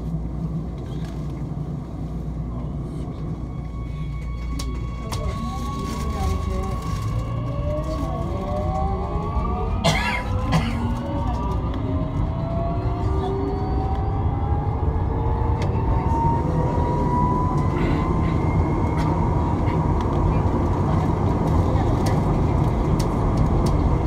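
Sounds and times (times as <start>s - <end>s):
low train rumble: 0.0s - 24.0s.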